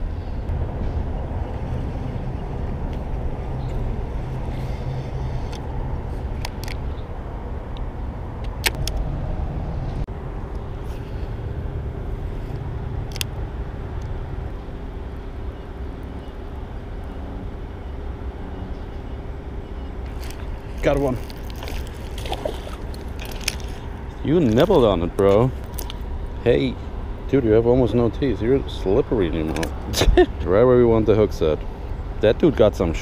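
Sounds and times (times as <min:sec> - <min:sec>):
highway traffic rumble: 0:00.0 - 0:33.0.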